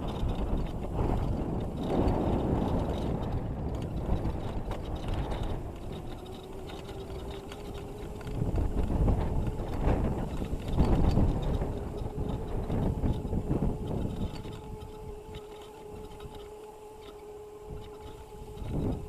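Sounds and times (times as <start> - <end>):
electric motor whine: 0.0 - 19.0
rough rumble of bike riding: 0.0 - 19.0.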